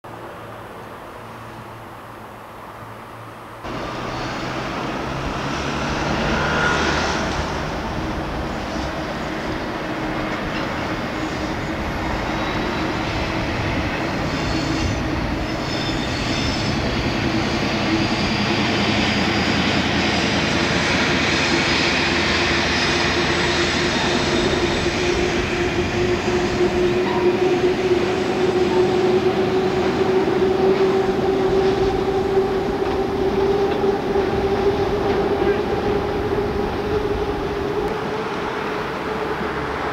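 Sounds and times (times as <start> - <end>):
diesel locomotive engine: 0.0 - 39.9.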